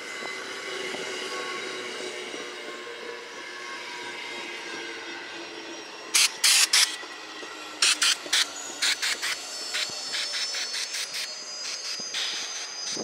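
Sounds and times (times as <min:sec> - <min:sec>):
train wheels on rail: 0:00.0 - 0:13.0.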